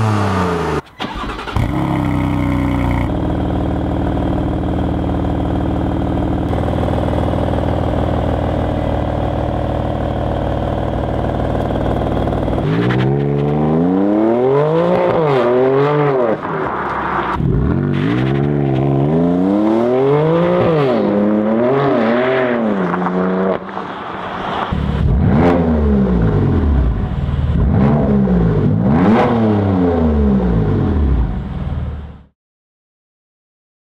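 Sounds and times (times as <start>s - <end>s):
car engine idling and revving: 0.0s - 32.3s.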